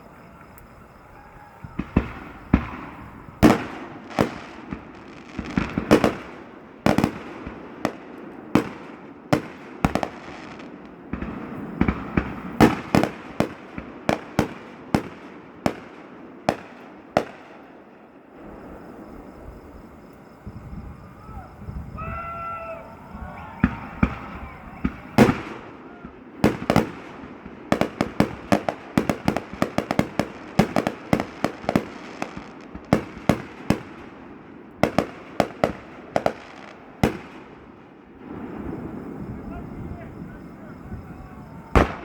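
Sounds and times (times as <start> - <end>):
fireworks banging: 0.0 - 42.0
fireworks crackling: 0.0 - 42.0.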